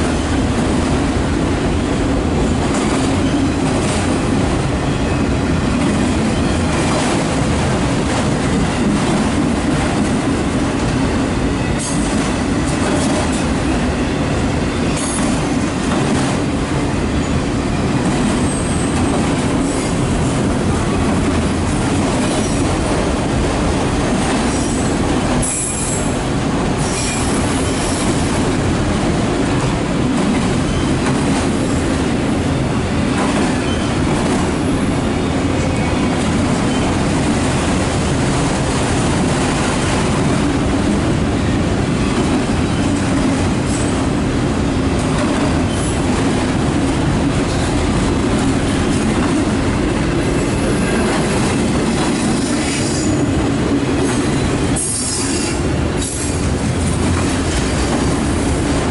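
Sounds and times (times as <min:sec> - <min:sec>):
freight train wheels rumbling on rail: 0:00.0 - 0:58.9.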